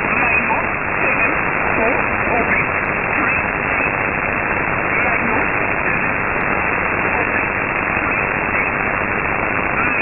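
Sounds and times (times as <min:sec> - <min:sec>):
faint voice over radio: 0:00.0 - 0:10.0
radio static hiss: 0:00.0 - 0:10.0.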